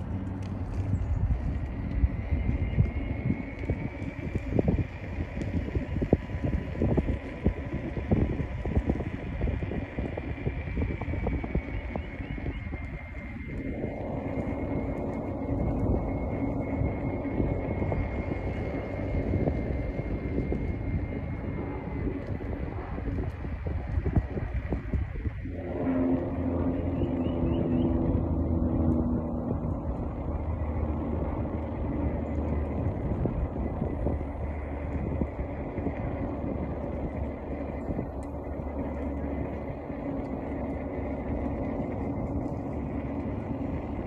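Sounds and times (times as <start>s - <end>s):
faint high whine: 0.0s - 44.0s
vehicle running along road: 0.0s - 44.0s
wind buffeting microphone: 0.0s - 44.0s.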